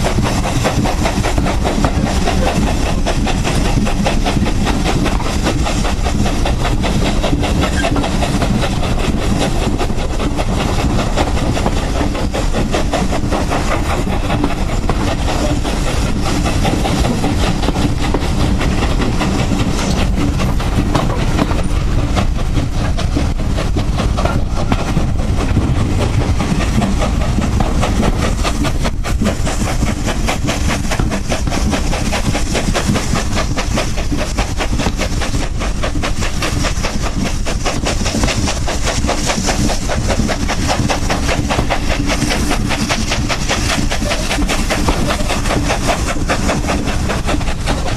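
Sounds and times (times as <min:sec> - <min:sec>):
steam locomotive exhaust beats: 0:00.0 - 0:47.9
train rumbling on rails: 0:00.0 - 0:47.9.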